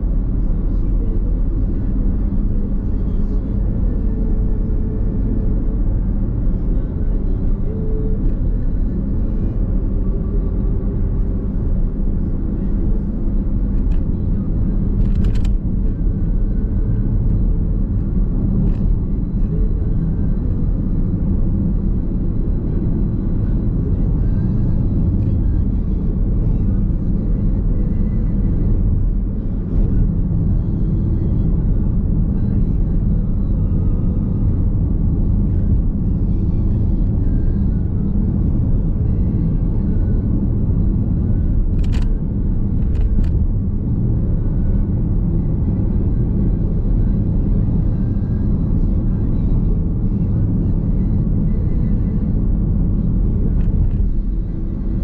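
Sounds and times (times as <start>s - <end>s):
road and tyre rumble: 0.0s - 55.0s.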